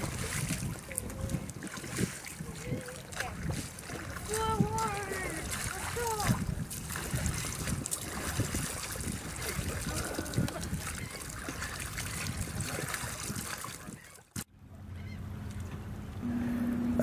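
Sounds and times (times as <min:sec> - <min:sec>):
oars splashing in water: 0:00.0 - 0:14.5.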